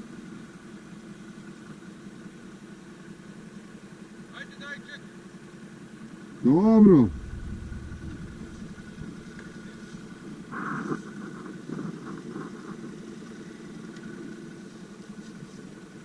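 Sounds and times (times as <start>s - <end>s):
atv engine idling: 0.0s - 16.0s.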